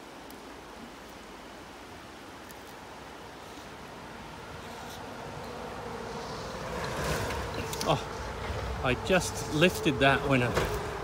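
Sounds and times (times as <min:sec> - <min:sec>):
river flowing over stones: 0:00.0 - 0:11.0.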